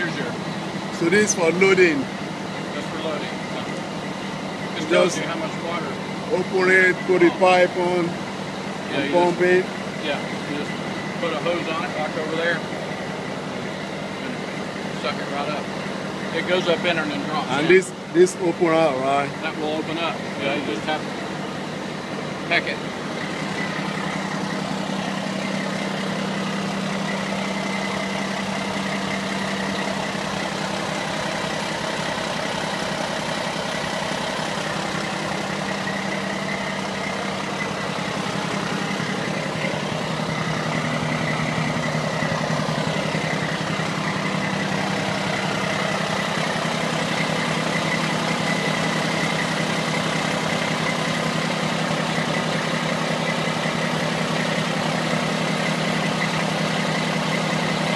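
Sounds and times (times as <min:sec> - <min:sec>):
diesel engine idling: 0:00.0 - 0:57.9.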